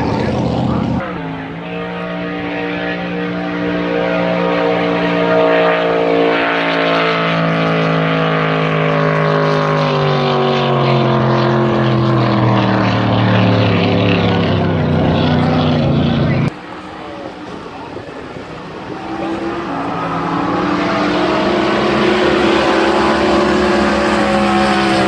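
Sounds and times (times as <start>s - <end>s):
loud boat engine: 0.0s - 25.0s.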